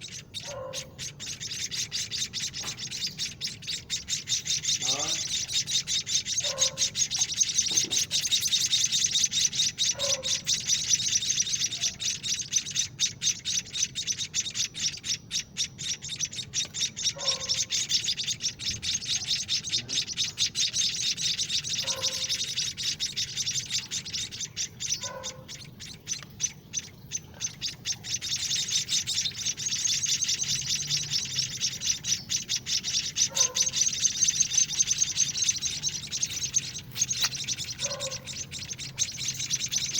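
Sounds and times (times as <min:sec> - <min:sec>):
nestlings begging chirps: 0:00.0 - 0:39.9.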